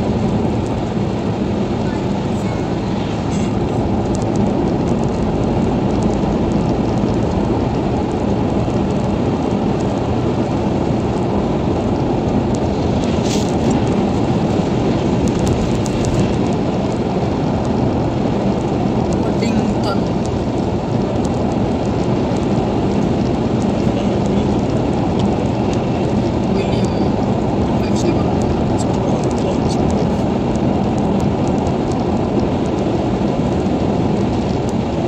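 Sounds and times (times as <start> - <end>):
car road and engine noise: 0.0 - 35.0.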